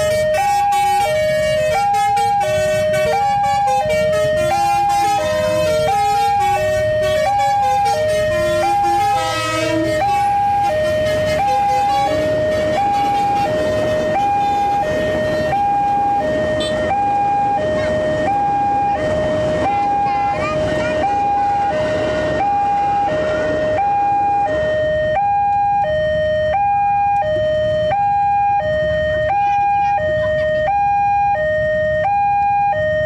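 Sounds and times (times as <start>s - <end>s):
two-tone crossing alarm: 0.0s - 33.0s.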